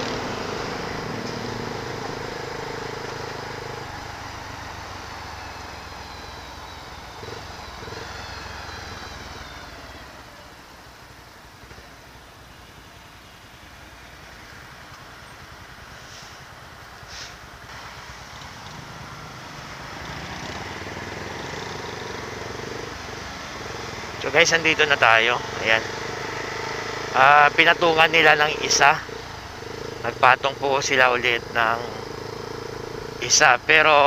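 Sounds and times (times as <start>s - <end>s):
motorcycle engine: 0.0s - 34.0s
surrounding traffic: 0.0s - 34.0s.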